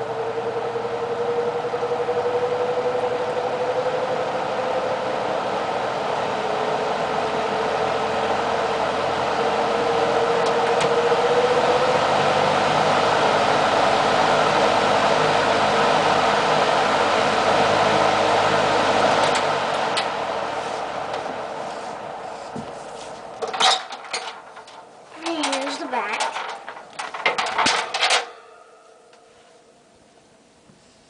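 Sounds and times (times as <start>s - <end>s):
box fan running: 0.0s - 31.0s.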